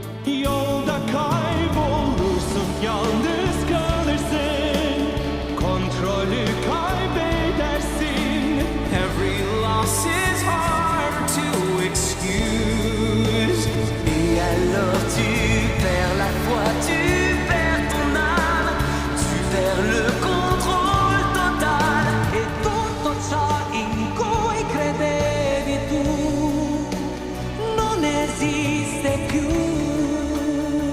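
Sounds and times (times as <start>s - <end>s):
instrumental backing: 0.0s - 30.9s
orchestral accompaniment: 0.0s - 30.9s
solo voice singing a ballad: 0.0s - 30.9s.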